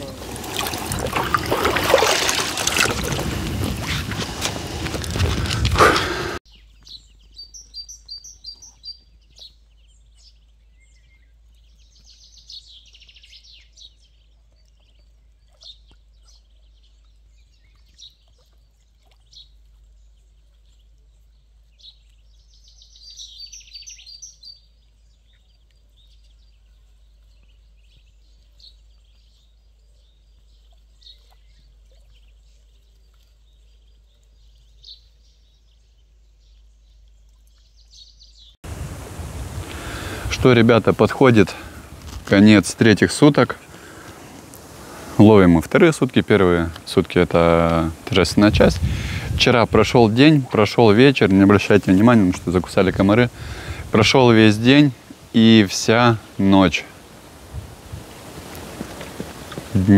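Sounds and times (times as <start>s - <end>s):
birds chirping and singing: 0.0s - 38.6s, 39.7s - 56.9s.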